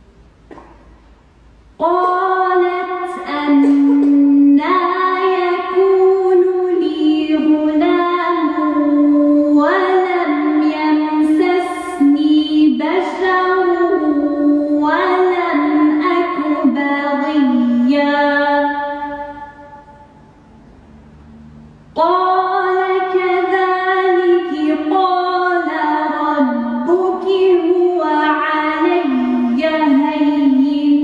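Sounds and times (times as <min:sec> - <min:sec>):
woman chanting: 0:01.8 - 0:20.2, 0:22.0 - 0:31.0.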